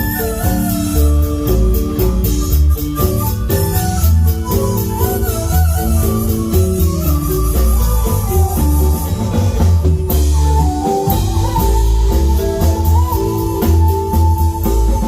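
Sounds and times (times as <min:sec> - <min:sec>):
bass line: 0:00.0 - 0:15.0
drum kit: 0:00.0 - 0:15.0
marimba band dance music: 0:00.0 - 0:15.0.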